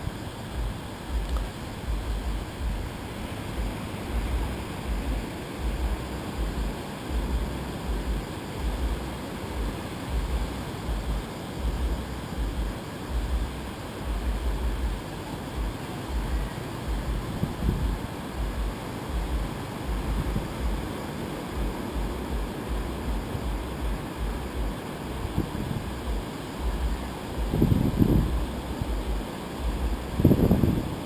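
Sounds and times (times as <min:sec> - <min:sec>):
surf breaking on beach: 0:00.0 - 0:31.0
wind buffeting microphone: 0:00.0 - 0:31.0.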